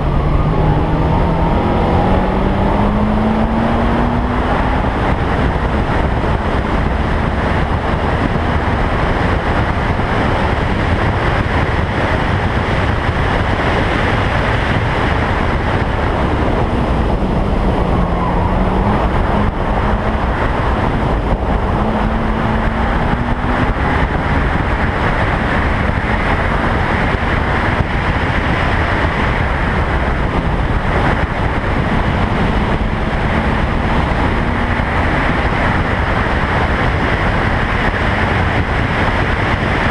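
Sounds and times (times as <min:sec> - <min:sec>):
race car engine: 0:00.0 - 0:39.9
wind rushing over microphone: 0:00.0 - 0:39.9.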